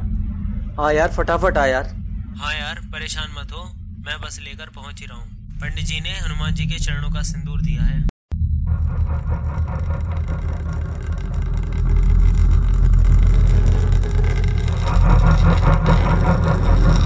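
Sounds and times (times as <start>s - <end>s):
deep rumbling drone: 0.0s - 17.0s.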